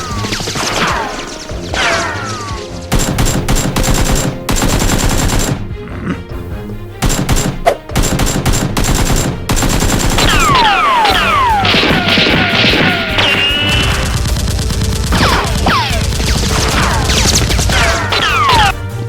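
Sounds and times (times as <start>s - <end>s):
automatic gunfire sound effects: 0.0s - 5.6s, 7.0s - 18.7s.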